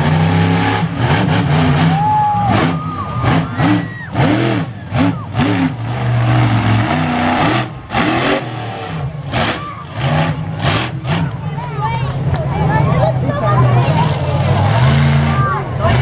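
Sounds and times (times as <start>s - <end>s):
truck engine revving hard: 0.0s - 11.7s, 13.1s - 16.0s.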